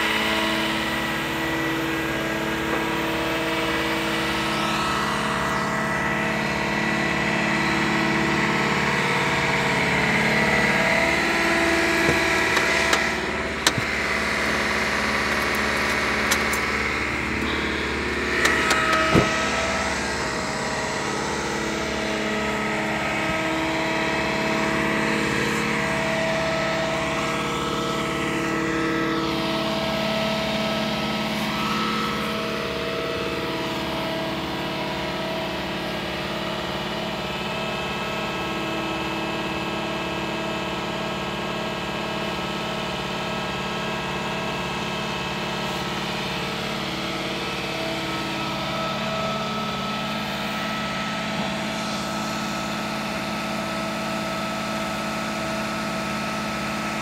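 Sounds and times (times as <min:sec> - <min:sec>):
diesel engine whining under load: 0:00.0 - 0:57.0.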